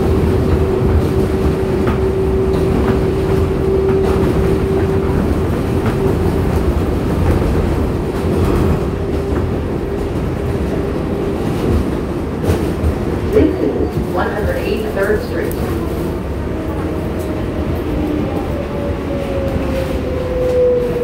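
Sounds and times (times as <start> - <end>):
subway car rumble: 0.0 - 21.0.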